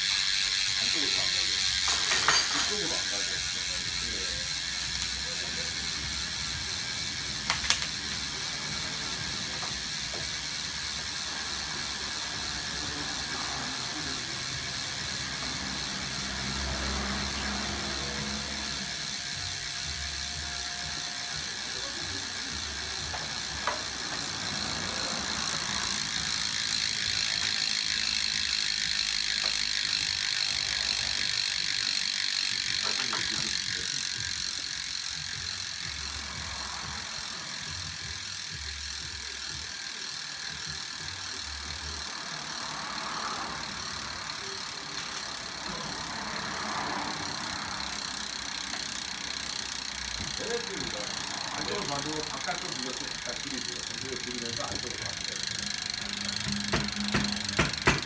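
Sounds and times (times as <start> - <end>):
bicycle freehub ratchet buzzing: 0.0 - 58.0.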